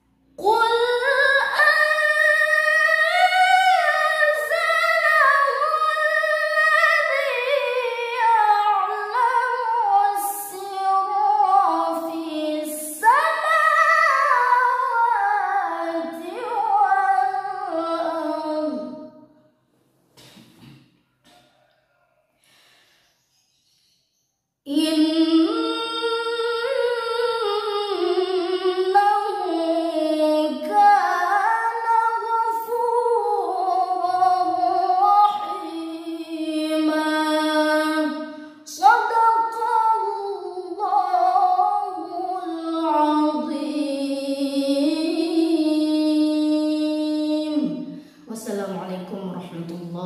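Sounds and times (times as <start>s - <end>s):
woman chanting: 0.0s - 19.1s, 24.7s - 50.0s.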